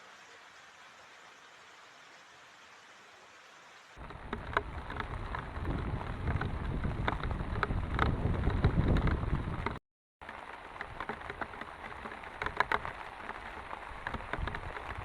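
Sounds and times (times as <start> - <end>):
heavy rain drops striking: 0.0 - 15.0.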